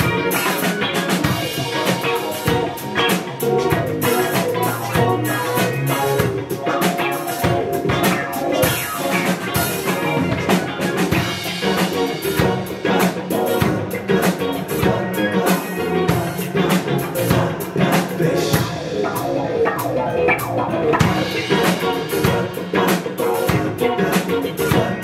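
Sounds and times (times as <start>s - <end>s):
drum kit beat: 0.0s - 25.0s
electric bass guitar: 0.0s - 25.0s.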